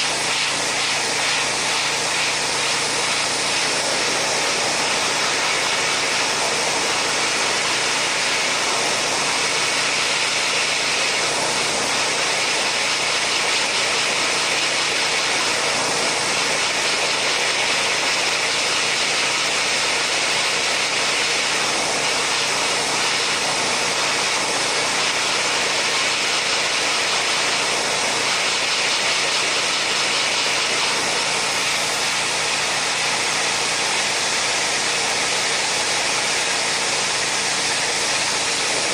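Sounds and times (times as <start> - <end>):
air jet hissing: 0.0 - 38.9.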